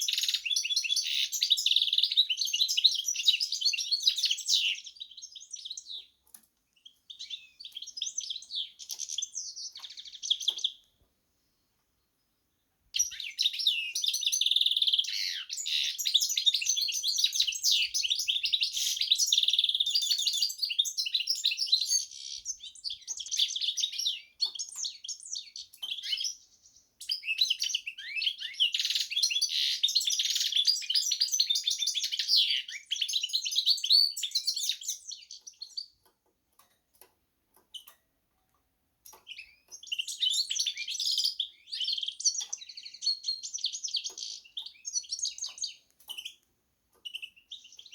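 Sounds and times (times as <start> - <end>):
finch twittering song: 0.0 - 11.0, 11.6 - 38.1, 39.0 - 47.9.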